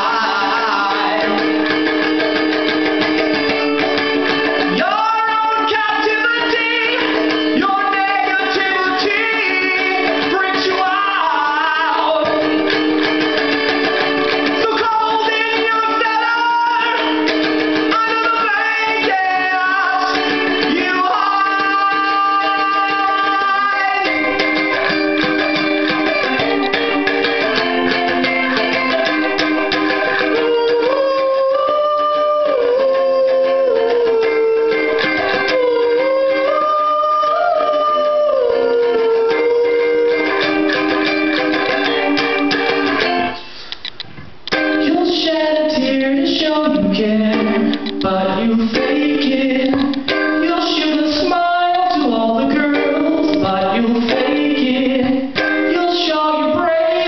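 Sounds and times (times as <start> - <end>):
man singing: 0.0 - 2.1, 4.5 - 13.1, 14.5 - 27.0, 30.3 - 40.9, 44.5 - 57.0
guitar strumming: 0.0 - 57.0.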